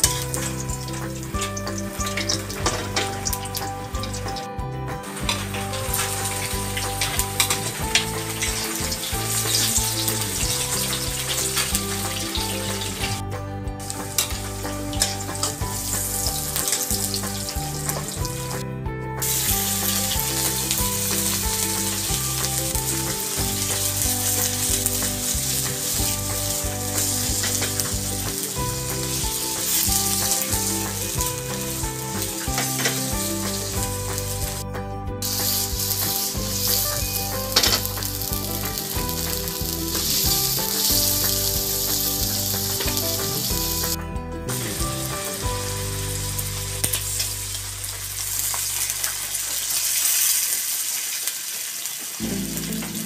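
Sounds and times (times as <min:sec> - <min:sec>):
food sizzling in hot oil: 0:00.0 - 0:13.2, 0:13.8 - 0:18.6, 0:19.2 - 0:34.6, 0:35.2 - 0:44.0, 0:44.7 - 0:53.0.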